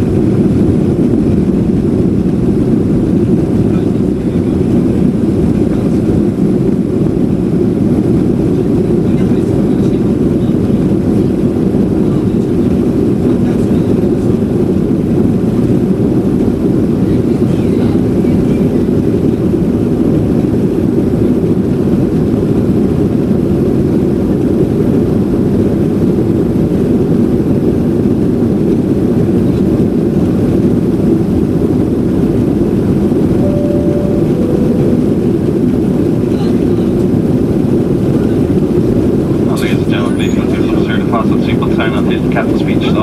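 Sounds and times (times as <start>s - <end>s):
jet engines and airflow in cabin: 0.0s - 43.0s.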